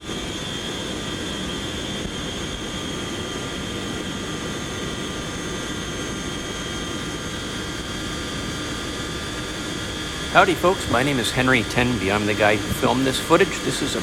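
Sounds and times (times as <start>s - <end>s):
jet engines roaring with high whine: 0.0s - 14.0s.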